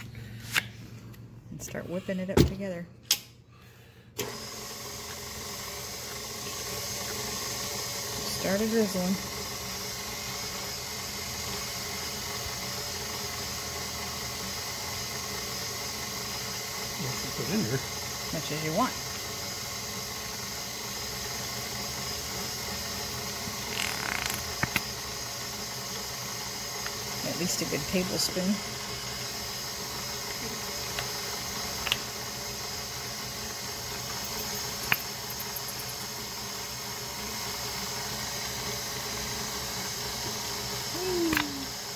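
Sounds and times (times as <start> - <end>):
stand mixer humming: 4.2 - 41.9.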